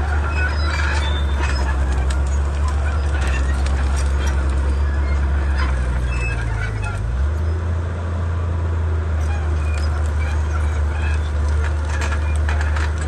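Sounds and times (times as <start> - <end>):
knocks and clatter: 0.0 - 7.1, 9.6 - 13.0
bulldozer diesel engine running: 0.0 - 13.0.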